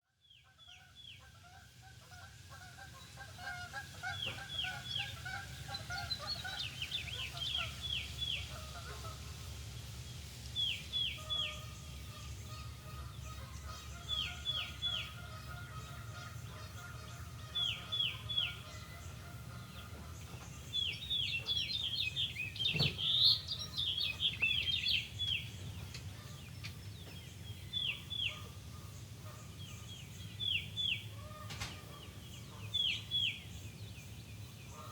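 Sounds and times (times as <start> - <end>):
birds singing and calling: 0.3 - 34.9.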